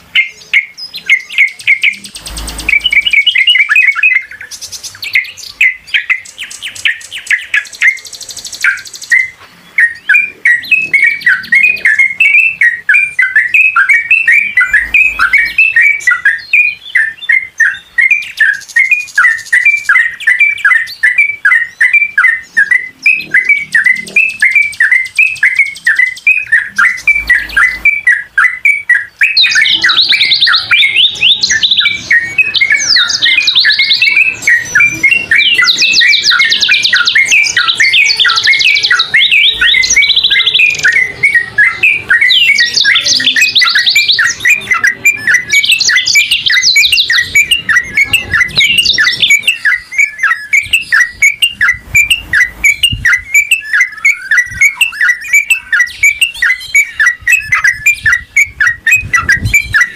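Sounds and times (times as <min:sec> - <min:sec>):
bird chirping: 0:00.0 - 0:59.9
high-pitched bird trills: 0:00.0 - 0:59.9.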